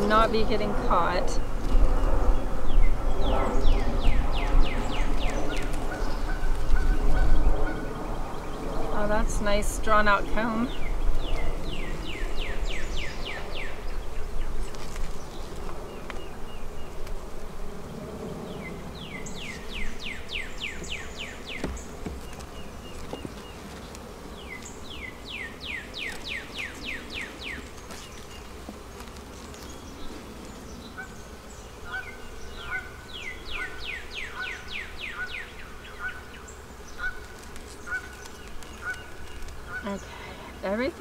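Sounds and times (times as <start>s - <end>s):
honeybees humming: 0.0s - 41.0s.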